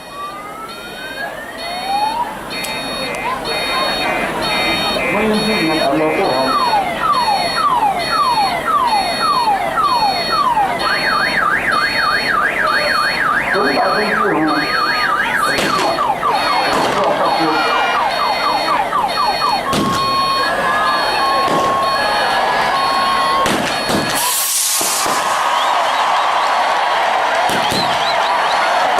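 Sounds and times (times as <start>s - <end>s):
car alarm siren: 0.0s - 28.9s.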